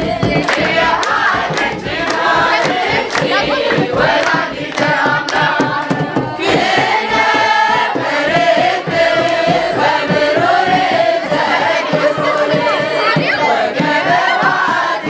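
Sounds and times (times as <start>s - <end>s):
group singing a hymn: 0.0s - 15.0s
sharp beats: 0.0s - 15.0s.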